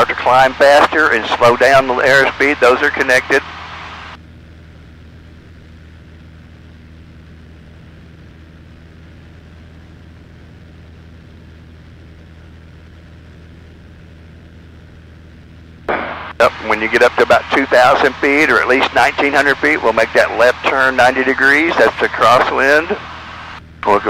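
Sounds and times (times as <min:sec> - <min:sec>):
airplane engine drone: 0:00.0 - 0:24.0.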